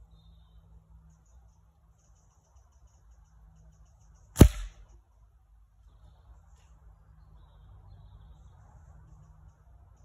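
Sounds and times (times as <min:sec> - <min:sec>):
faint bird chirps: 0:00.0 - 0:05.1, 0:05.7 - 0:10.0.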